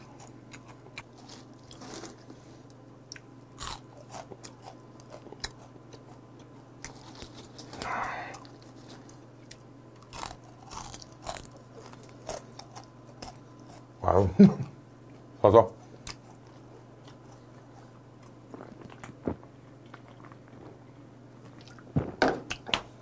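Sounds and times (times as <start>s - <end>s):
chewing and crunching dried fish: 0.0s - 14.0s, 15.8s - 20.8s.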